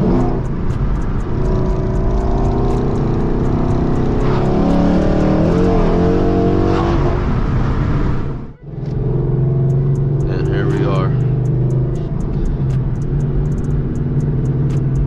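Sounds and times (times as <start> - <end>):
car engine and exhaust driving: 0.0 - 15.0.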